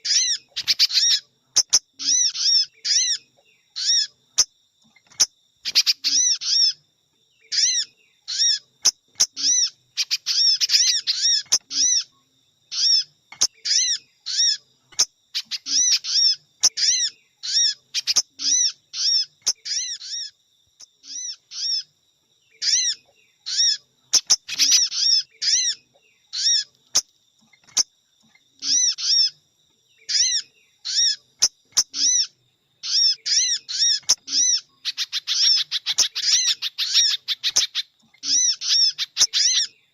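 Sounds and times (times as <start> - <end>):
high arched bird chirps: 0.0 - 39.9.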